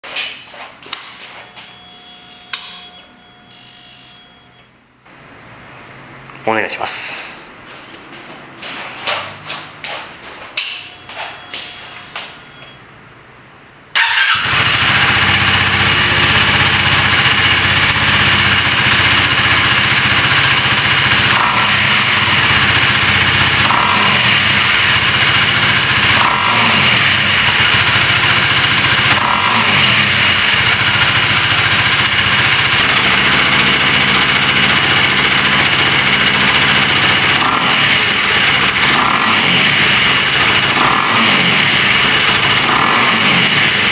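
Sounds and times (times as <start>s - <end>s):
motorcycle engine starting and idling: 0.0s - 4.6s, 8.7s - 12.8s, 13.9s - 43.9s.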